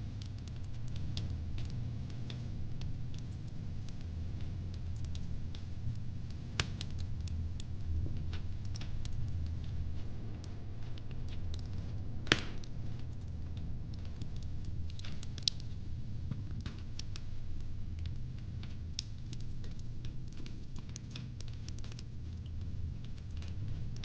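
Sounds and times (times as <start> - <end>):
low steady rumble: 0.0 - 24.0
wood fire crackling and popping: 0.0 - 24.0.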